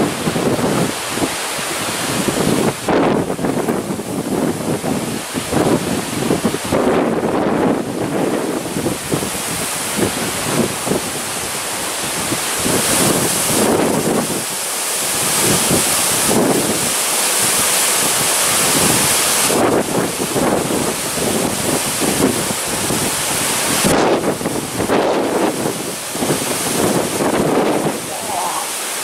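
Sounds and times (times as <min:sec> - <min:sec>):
gusty storm wind: 0:00.0 - 0:29.0.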